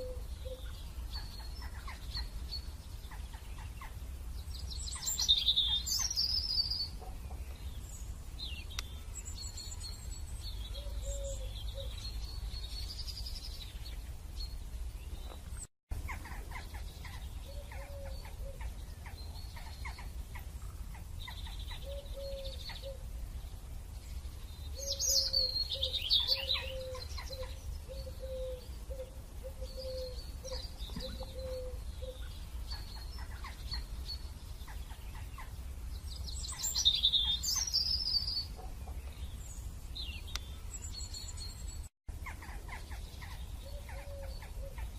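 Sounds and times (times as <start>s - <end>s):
birds chirping and trilling: 0.0s - 44.9s.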